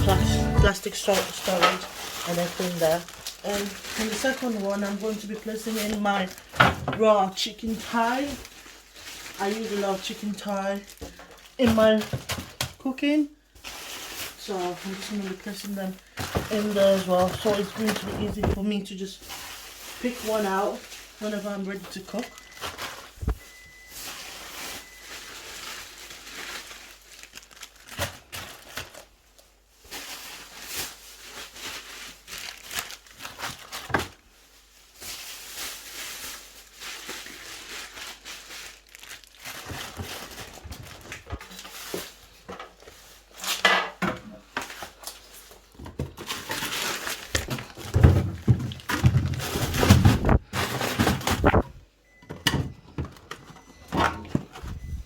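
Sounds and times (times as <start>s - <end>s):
plastic packaging crinkling: 0.0s - 43.6s, 44.4s - 51.7s.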